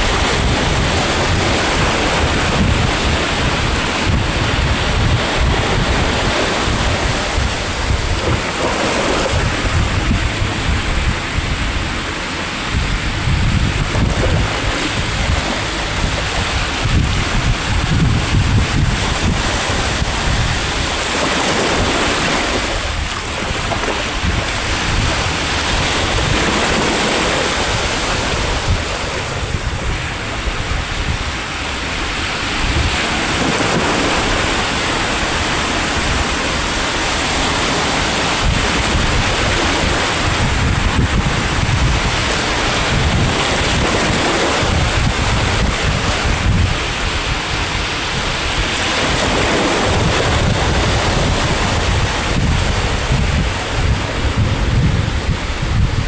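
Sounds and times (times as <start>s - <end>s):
sea waves breaking: 0.0s - 56.0s
wind buffeting microphone: 0.0s - 56.0s.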